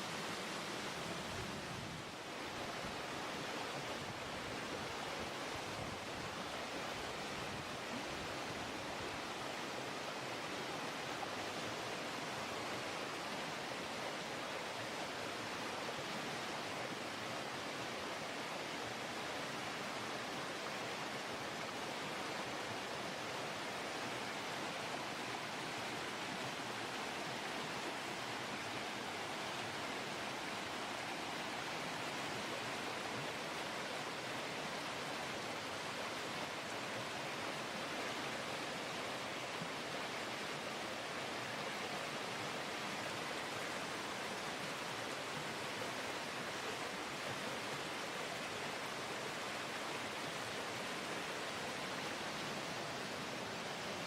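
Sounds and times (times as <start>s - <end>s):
rushing creek water: 0.0s - 54.0s.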